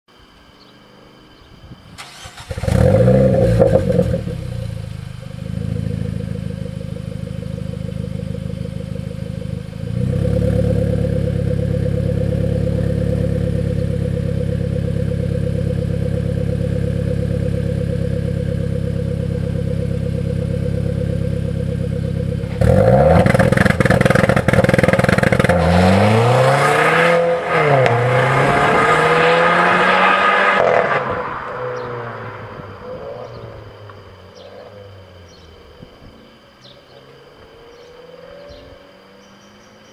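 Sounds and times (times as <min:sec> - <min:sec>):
car engine idling: 0:02.0 - 0:26.2, 0:30.6 - 0:39.9
car engine accelerating: 0:02.0 - 0:39.9.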